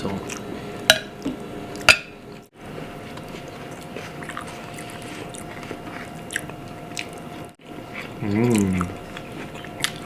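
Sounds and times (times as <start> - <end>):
people chewing food: 0.0 - 0.6, 1.2 - 10.0.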